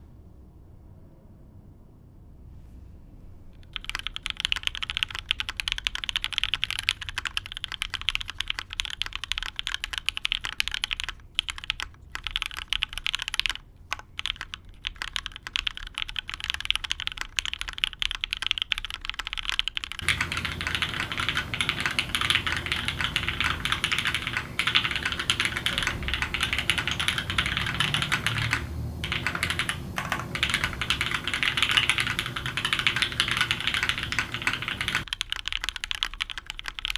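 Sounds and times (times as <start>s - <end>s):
mechanical keyboard typing: 3.6s - 36.9s.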